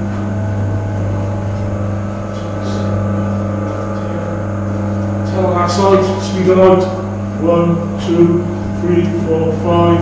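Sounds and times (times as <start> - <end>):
electric motor hum: 0.0 - 10.0.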